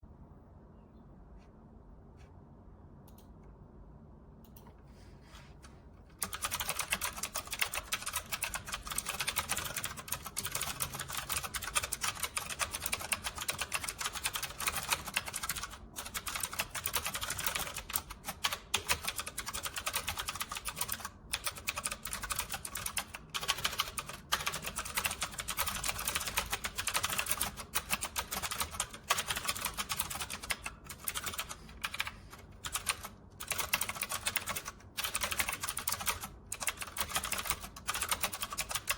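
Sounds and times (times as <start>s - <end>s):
mechanical keyboard typing: 6.2s - 38.9s.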